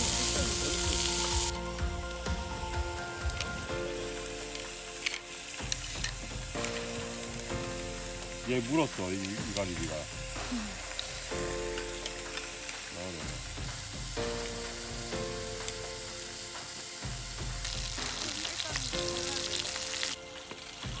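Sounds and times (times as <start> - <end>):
scallops sizzling on grill: 0.0 - 21.0.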